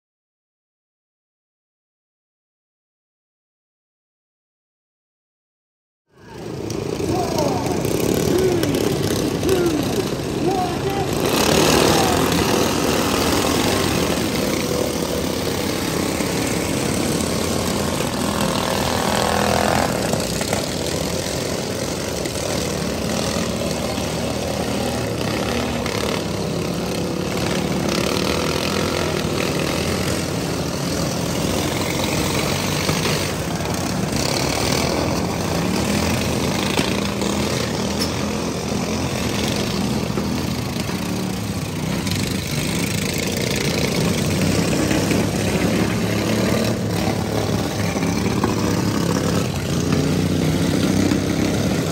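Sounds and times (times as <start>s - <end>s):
lawn mower engines running: 6.1s - 51.9s.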